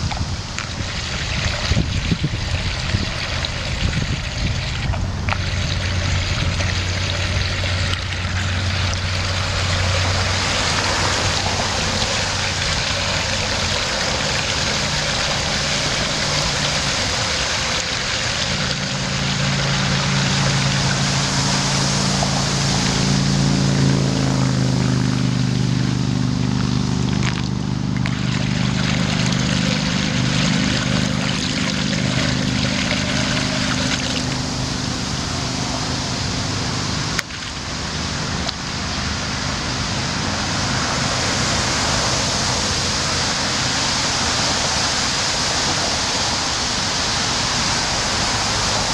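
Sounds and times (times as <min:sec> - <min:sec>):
low steady hum: 0:00.0 - 0:48.9
water pouring into culvert: 0:00.0 - 0:48.9.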